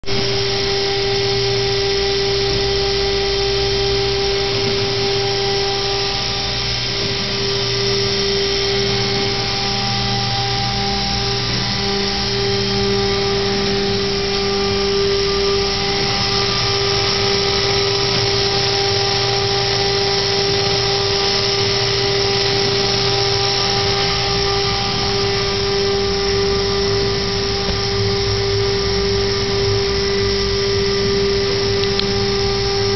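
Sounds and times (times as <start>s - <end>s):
machine mechanical drone: 0.0s - 32.9s.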